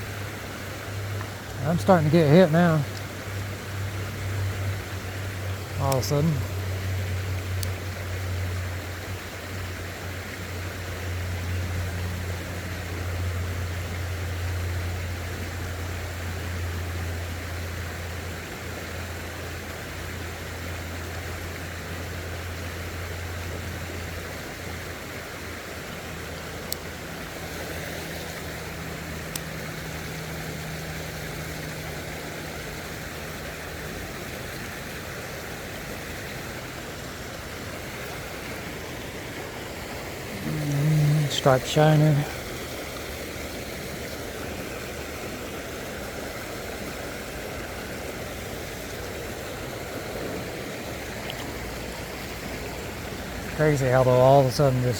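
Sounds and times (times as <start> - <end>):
creek water running: 0.0 - 54.9
low steady hum: 0.0 - 54.9.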